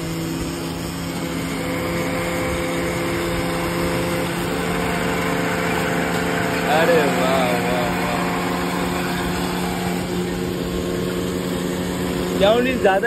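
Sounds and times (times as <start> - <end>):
blender motor whirring: 0.0 - 13.0.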